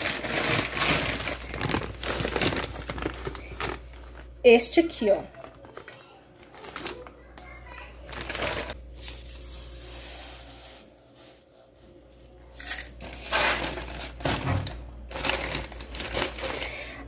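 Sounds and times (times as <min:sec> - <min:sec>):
plastic bag crinkling: 0:00.0 - 0:07.3, 0:08.0 - 0:10.0, 0:12.3 - 0:17.0.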